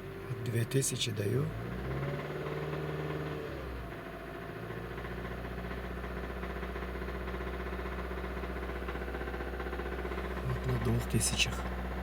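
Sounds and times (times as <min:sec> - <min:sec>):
car engine fast idle with knock: 0:02.2 - 0:12.0.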